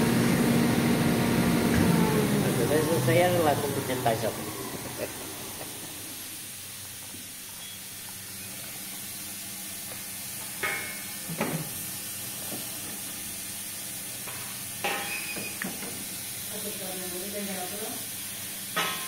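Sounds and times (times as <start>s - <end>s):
machine hiss and low hum: 0.0s - 19.0s.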